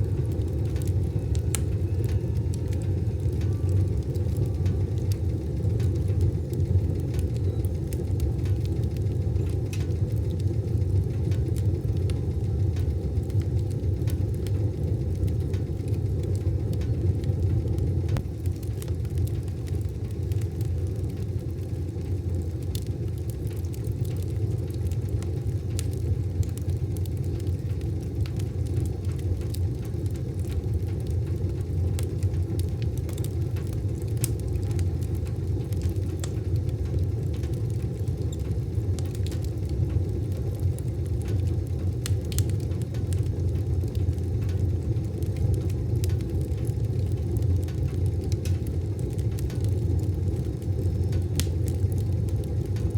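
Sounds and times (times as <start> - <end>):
fire crackles and pops: 0.0 - 52.9
wood stove fire rumble: 0.0 - 52.9.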